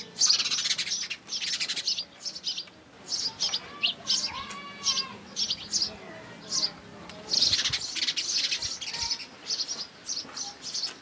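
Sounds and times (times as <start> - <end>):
bird trill: 0.0 - 11.0
small birds chirping: 0.0 - 11.0.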